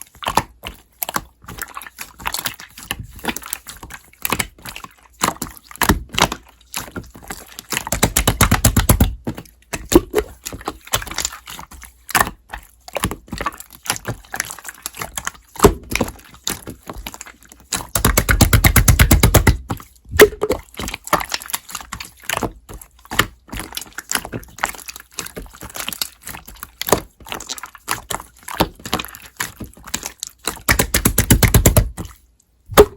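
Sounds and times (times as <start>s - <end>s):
slime crackling and squelching: 0.0s - 32.9s.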